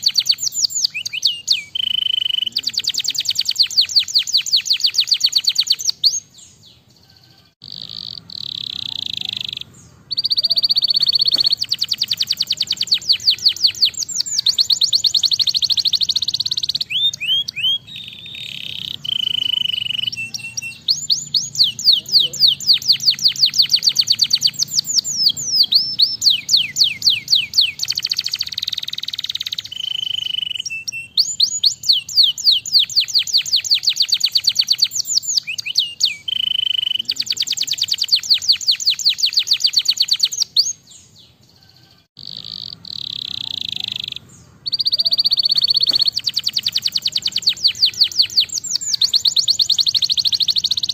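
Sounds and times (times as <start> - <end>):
canary singing: 0.0 - 50.9.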